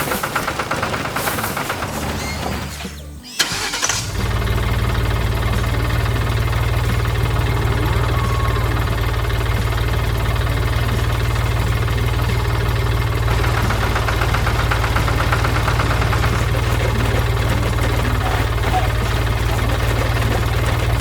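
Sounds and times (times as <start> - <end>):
diesel engine humming: 3.4 - 21.0
rapid even ticking: 3.5 - 21.0.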